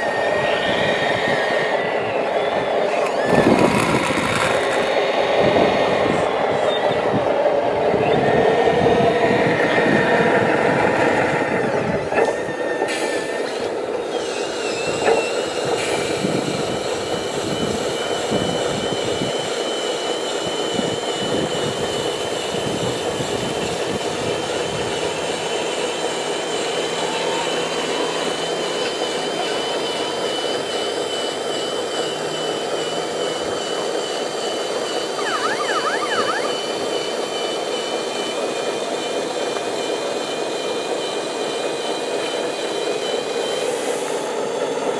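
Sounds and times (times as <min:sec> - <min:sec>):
hydraulic pump whining: 0:00.0 - 0:08.9, 0:09.5 - 0:40.0.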